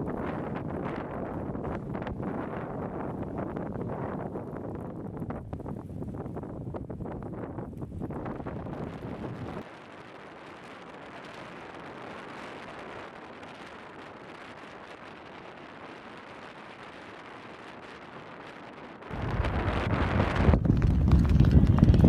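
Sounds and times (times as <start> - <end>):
wind gust on microphone: 0.0 - 22.0
wind hissing: 0.0 - 22.0.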